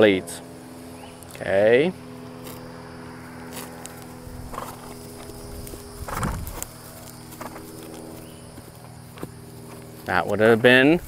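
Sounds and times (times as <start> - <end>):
faint steady hum: 0.0 - 11.0
hooves on grass: 0.0 - 11.0.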